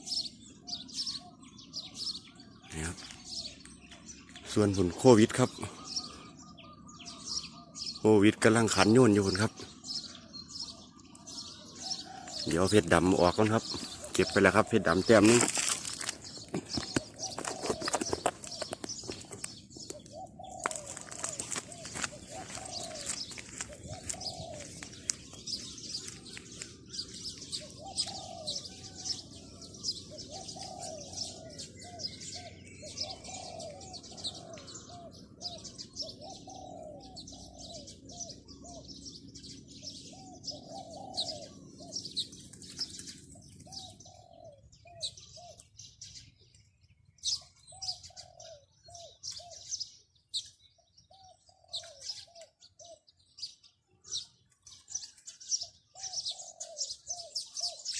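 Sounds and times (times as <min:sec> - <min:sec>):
doves cooing: 0:00.0 - 0:46.4, 0:47.2 - 0:57.9
small birds chirping: 0:00.0 - 0:57.9.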